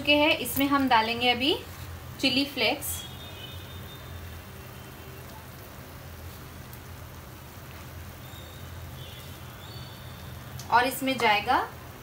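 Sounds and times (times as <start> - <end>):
bread frying sizzling in pan: 0.0 - 12.0.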